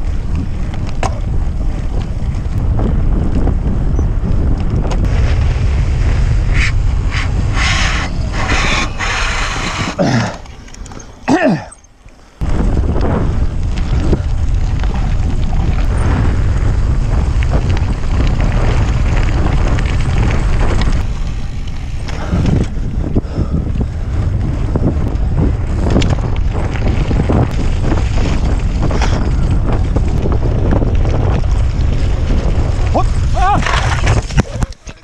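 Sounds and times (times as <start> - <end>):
bicycle tyres rattling on gravel: 0.0 - 11.3, 12.4 - 35.0
wind buffeting microphone: 0.0 - 35.0.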